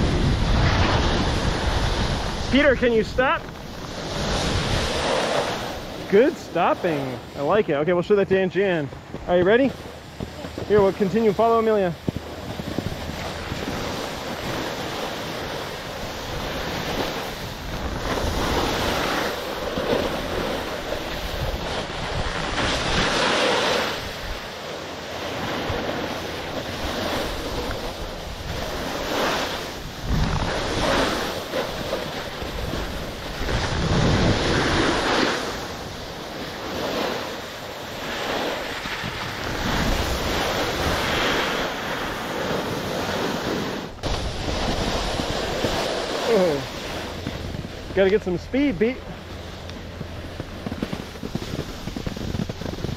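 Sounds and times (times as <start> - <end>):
wind on microphone: 0.0 - 52.9
skis scraping over snow: 0.1 - 24.5, 25.1 - 52.9.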